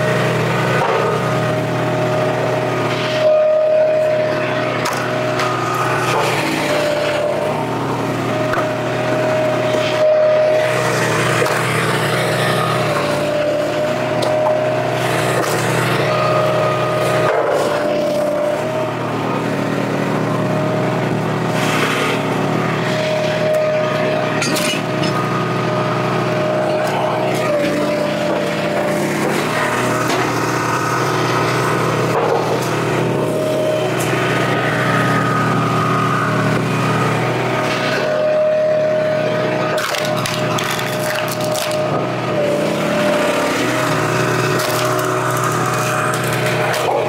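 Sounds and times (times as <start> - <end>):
high machine tone: 0.0 - 47.0
log splitter engine running: 0.0 - 47.0.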